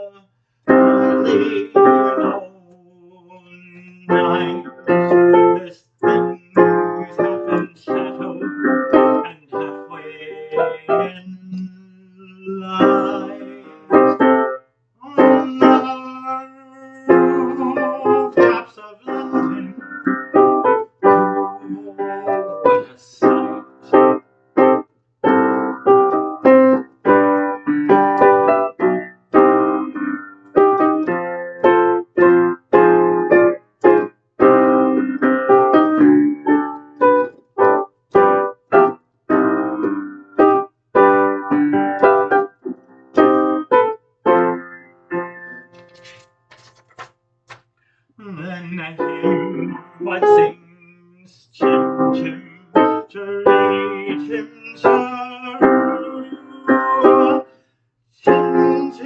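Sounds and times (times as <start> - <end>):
piano chords: 0.0 - 2.5, 3.2 - 46.8, 48.2 - 51.0, 51.6 - 57.5, 58.3 - 59.0.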